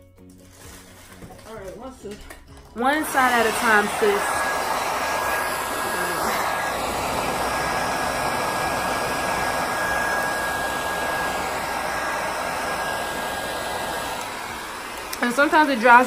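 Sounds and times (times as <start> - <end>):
hair dryer blowing: 2.8 - 16.0.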